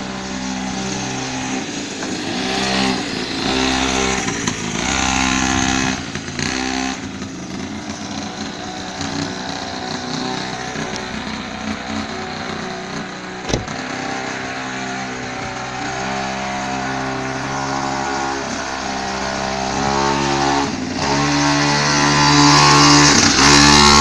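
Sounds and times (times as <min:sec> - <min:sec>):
small motorbike engine running: 0:00.0 - 0:24.0.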